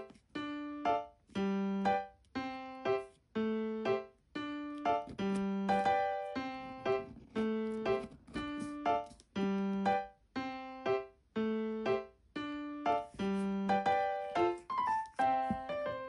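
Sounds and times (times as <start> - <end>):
gentle keyboard tune: 0.0 - 16.0.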